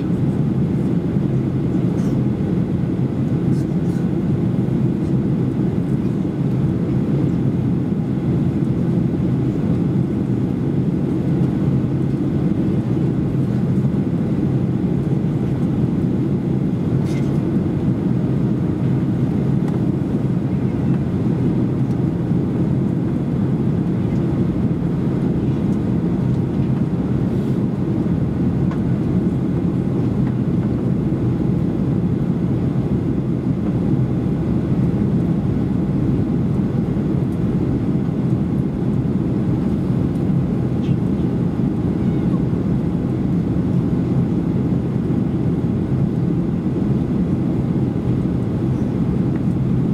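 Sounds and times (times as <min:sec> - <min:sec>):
airflow over fuselage: 0:00.0 - 0:49.9
airplane cabin engine drone: 0:00.0 - 0:49.9.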